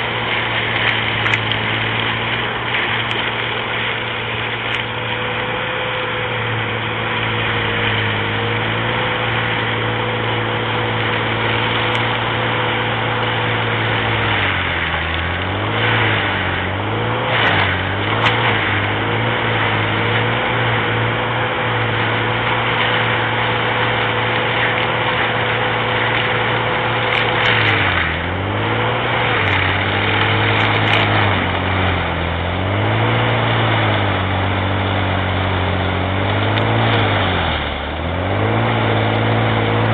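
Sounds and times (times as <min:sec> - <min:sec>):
mulcher engine running: 0:00.0 - 0:39.9
rotor grinding brush: 0:00.0 - 0:39.9
wood cracking: 0:00.0 - 0:39.9.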